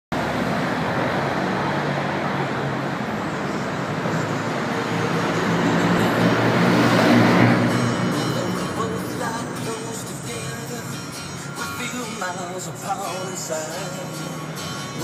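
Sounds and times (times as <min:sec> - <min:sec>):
street traffic rumble: 0:00.1 - 0:15.0.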